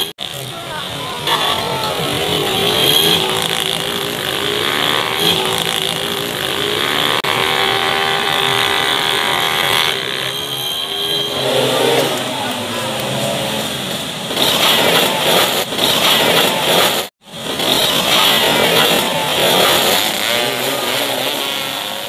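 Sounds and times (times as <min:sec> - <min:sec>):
race motorcycles revving and passing: 0:00.0 - 0:22.0.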